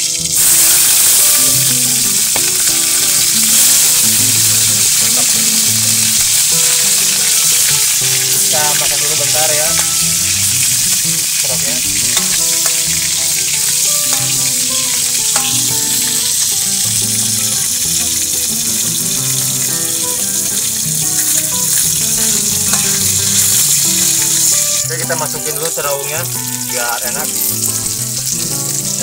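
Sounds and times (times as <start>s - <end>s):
frogs sizzling in hot oil: 0.0s - 29.0s.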